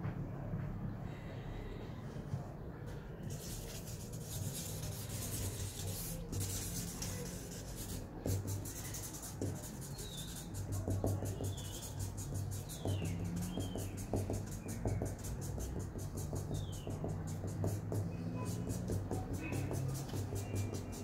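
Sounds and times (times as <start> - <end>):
marker pen scratching on paper board: 3.2 - 21.0.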